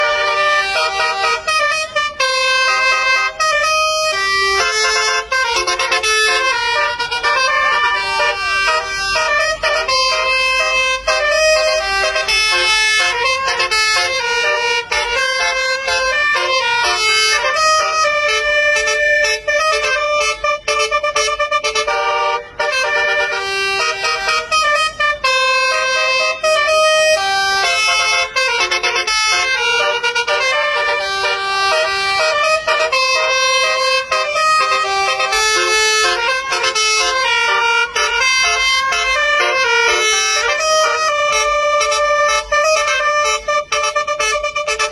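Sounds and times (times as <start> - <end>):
bus horn playing a melody: 0.0 - 44.9.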